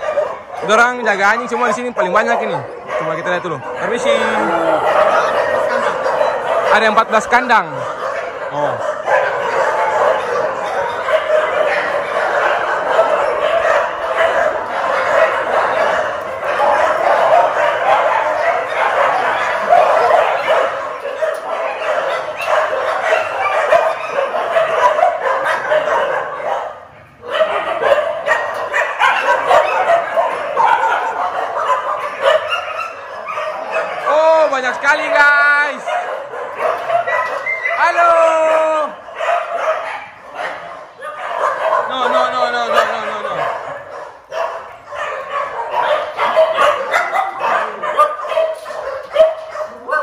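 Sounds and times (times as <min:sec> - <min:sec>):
many dogs barking and yipping: 0:00.0 - 0:50.0.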